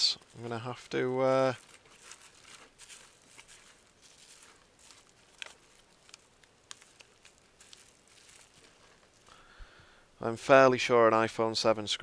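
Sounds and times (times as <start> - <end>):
faint rustling: 0.0 - 10.0.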